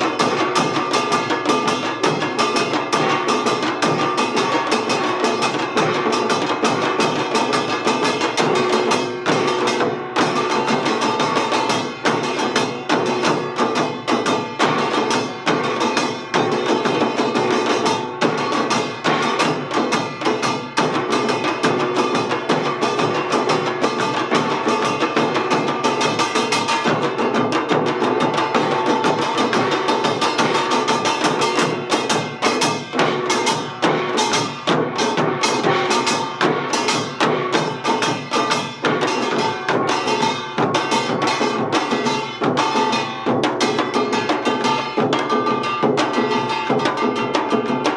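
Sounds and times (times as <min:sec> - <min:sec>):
drums in fast strokes: 0:00.0 - 0:47.9.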